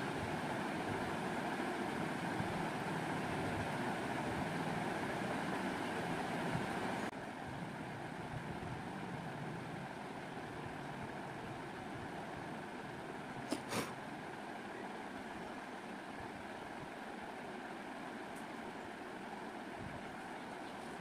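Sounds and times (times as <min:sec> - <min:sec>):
steady background hum and hiss: 0:00.0 - 0:21.0.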